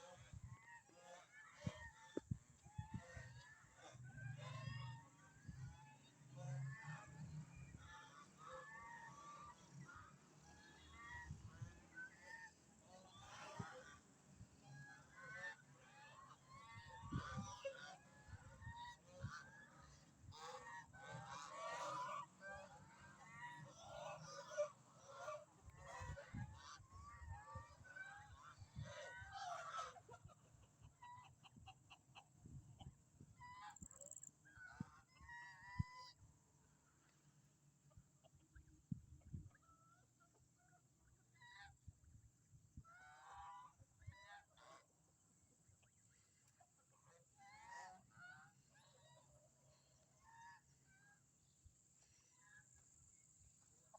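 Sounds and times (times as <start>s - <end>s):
ducks and hen squawking: 0.0s - 41.8s, 42.7s - 45.0s, 45.8s - 51.2s
poultry honk-like calls: 0.0s - 41.8s, 42.7s - 45.0s, 45.8s - 51.2s.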